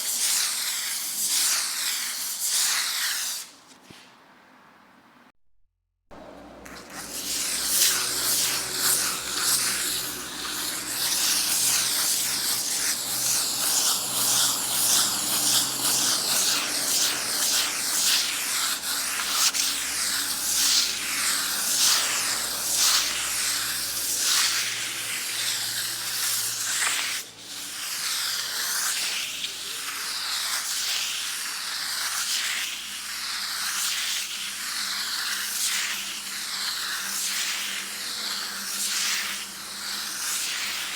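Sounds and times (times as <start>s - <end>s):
sandpaper scratching on wall: 0.0s - 4.2s, 6.5s - 40.9s.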